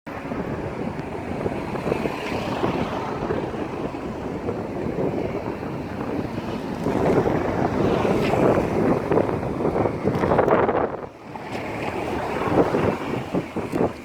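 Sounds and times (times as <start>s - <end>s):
floodwater rushing: 0.1s - 14.0s
wind buffeting microphone: 0.1s - 14.0s.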